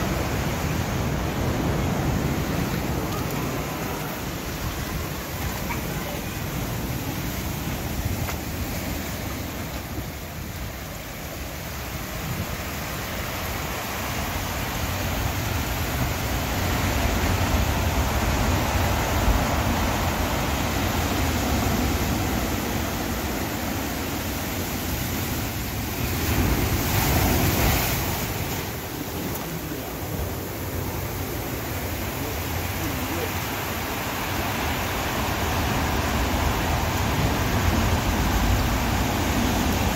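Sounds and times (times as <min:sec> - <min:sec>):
storm surf breaking: 0:00.0 - 0:39.9.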